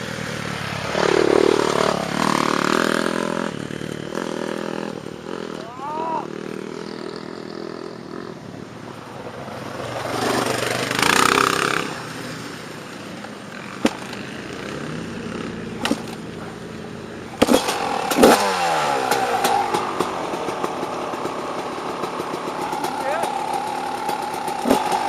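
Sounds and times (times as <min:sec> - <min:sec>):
dirt bike engine starting and idling: 0:00.0 - 0:08.4, 0:09.7 - 0:12.6, 0:13.5 - 0:25.0.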